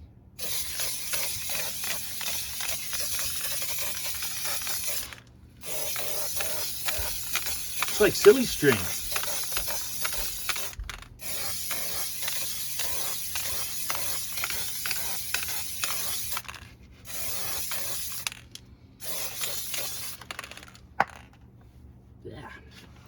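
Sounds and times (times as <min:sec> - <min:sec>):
aerosol can spraying: 0:00.4 - 0:16.5, 0:17.1 - 0:18.4, 0:19.0 - 0:20.5.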